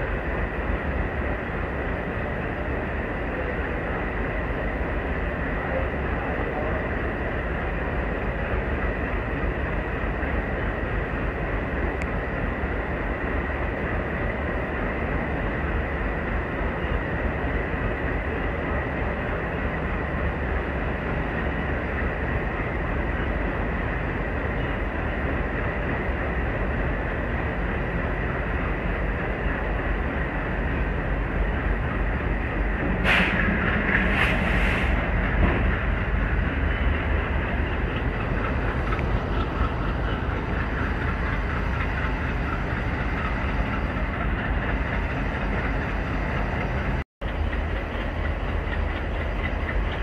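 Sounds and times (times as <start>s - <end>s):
train wheels rumbling on rail: 0.0s - 50.0s.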